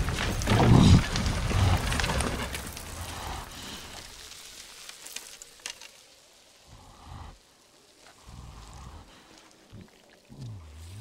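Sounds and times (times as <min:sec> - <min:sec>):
debris pattering down: 0:00.0 - 0:09.4.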